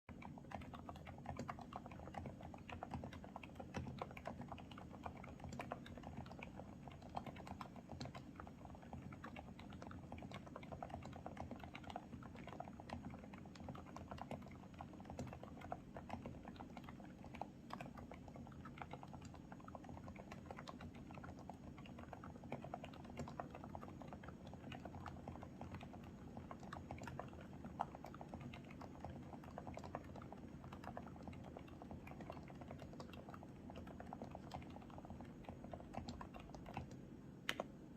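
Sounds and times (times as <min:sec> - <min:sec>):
soft muffled keyboard typing: 0:00.1 - 0:37.9.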